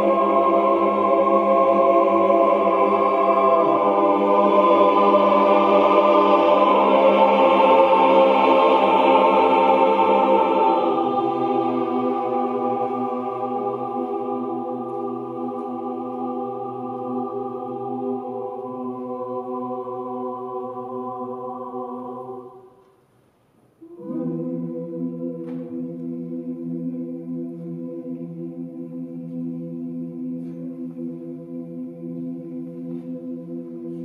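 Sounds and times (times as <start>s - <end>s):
mixed choir singing a cappella: 0.0s - 22.8s, 23.8s - 34.0s.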